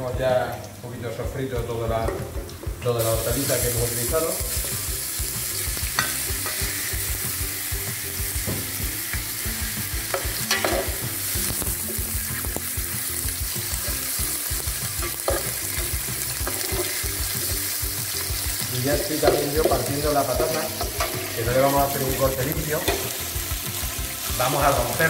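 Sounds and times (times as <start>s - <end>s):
meat sizzling in oil: 0.2s - 25.0s.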